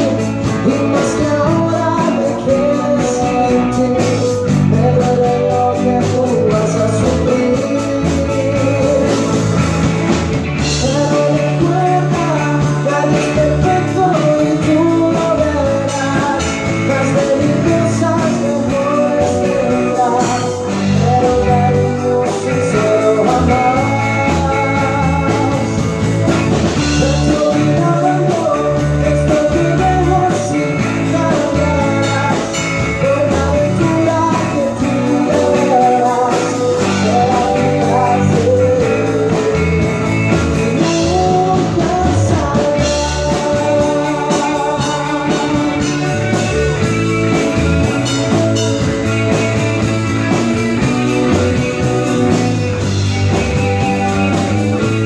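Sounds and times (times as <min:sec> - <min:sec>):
person singing: 0:00.0 - 0:55.0
rock band playing: 0:00.0 - 0:55.0.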